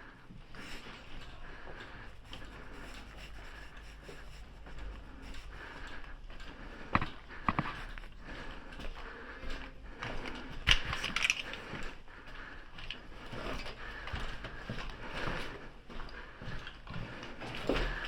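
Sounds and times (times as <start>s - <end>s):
shuffling footsteps: 0.0s - 18.0s.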